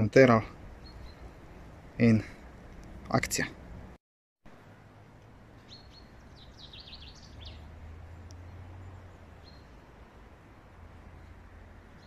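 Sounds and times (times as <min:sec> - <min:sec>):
songbird chirping: 0:00.3 - 0:03.8, 0:04.5 - 0:12.0.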